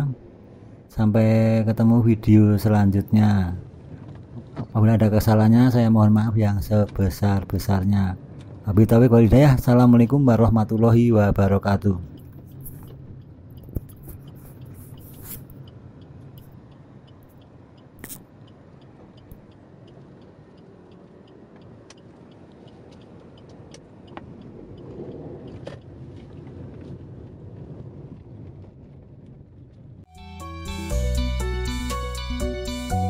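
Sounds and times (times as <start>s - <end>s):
engine and road hum: 0.0s - 33.0s.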